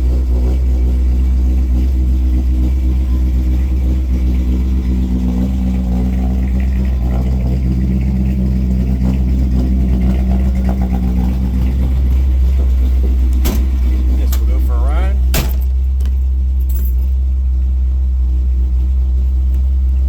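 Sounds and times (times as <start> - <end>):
car engine running steadily: 0.0 - 20.0.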